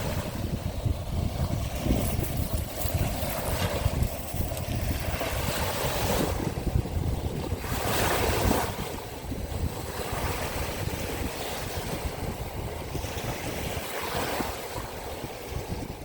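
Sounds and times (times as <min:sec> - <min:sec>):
waves washing in: 0:00.0 - 0:15.7
wind buffeting microphone: 0:00.0 - 0:16.0.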